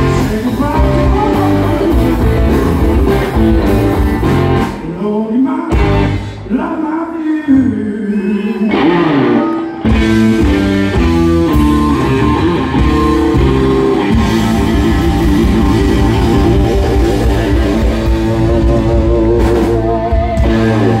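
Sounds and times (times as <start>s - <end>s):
blues band playing: 0.0s - 6.8s, 7.6s - 21.0s.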